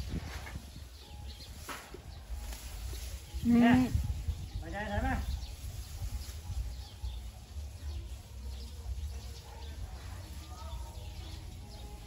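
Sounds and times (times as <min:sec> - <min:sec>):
rustling in tall grass: 0:00.0 - 0:12.0.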